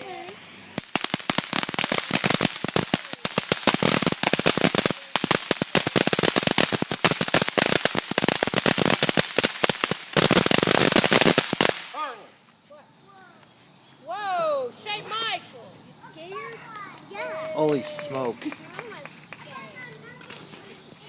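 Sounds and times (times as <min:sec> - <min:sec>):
firecrackers popping: 0:00.0 - 0:12.3, 0:16.3 - 0:21.0.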